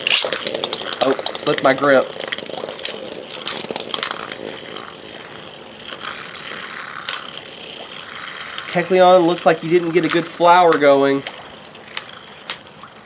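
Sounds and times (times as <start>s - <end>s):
spinning tops clacking: 0.0s - 13.0s
spinning tops whirring: 0.0s - 13.0s.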